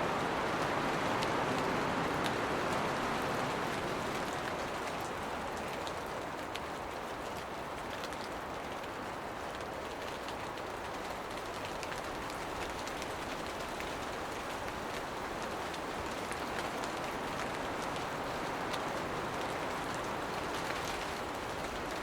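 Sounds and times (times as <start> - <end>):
hiss of rainfall: 0.0 - 22.0.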